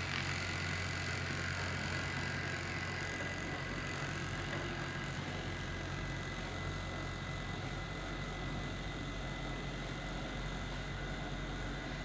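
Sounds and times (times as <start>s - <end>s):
low room hum with hiss: 0.0s - 12.0s.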